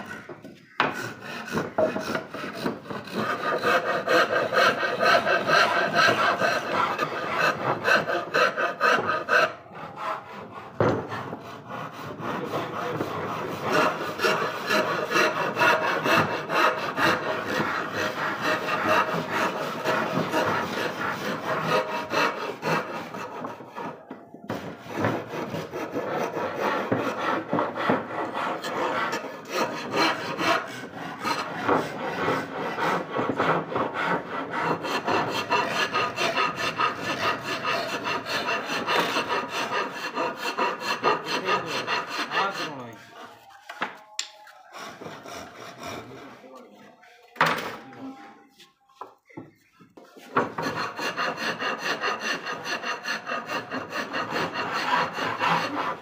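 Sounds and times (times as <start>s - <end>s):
hand tool rasping wood: 0.2s - 47.3s, 48.5s - 56.0s.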